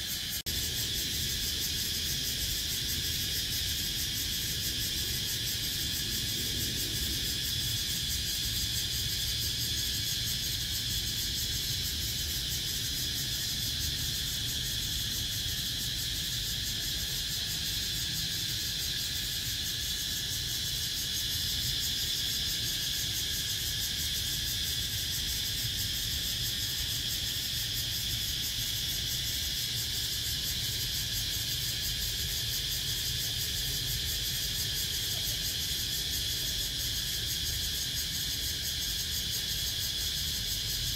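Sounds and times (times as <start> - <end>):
cicadas singing: 0.0 - 40.9.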